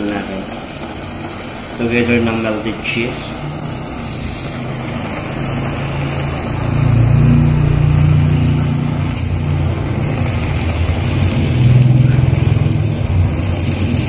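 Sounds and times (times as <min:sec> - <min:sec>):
blowtorch flame roaring: 0:00.0 - 0:14.0.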